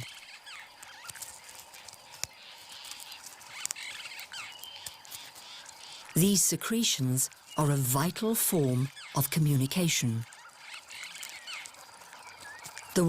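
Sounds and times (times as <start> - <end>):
small animal chirps and ticks: 0.0 - 13.0.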